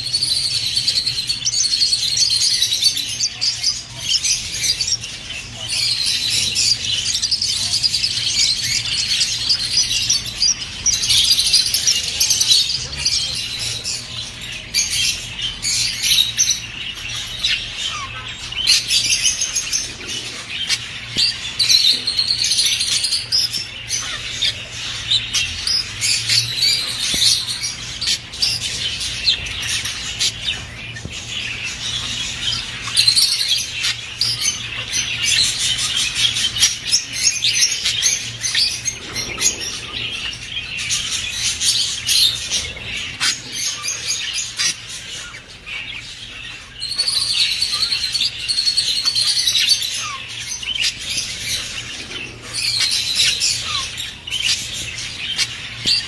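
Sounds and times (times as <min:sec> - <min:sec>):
budgerigars chattering and warbling: 0:00.0 - 0:56.0.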